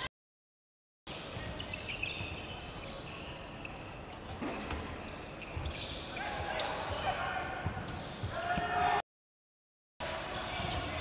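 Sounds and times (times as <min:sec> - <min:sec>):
sneaker squeaks: 0:01.1 - 0:09.0, 0:10.0 - 0:11.0
voices echoing in gym: 0:01.2 - 0:09.0, 0:10.0 - 0:11.0.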